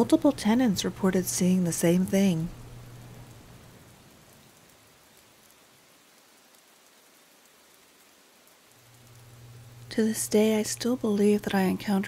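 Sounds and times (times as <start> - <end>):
faint rain on hard surface: 0.0 - 12.0
tiny ticks of raindrops: 0.0 - 12.0.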